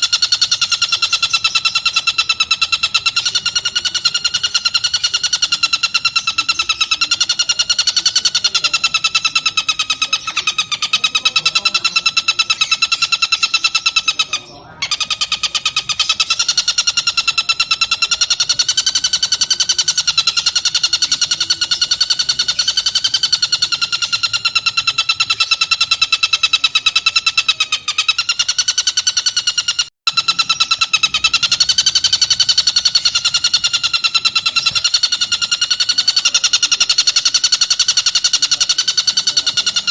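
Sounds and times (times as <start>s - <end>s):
kingfisher buzzing trill: 0.0s - 39.9s.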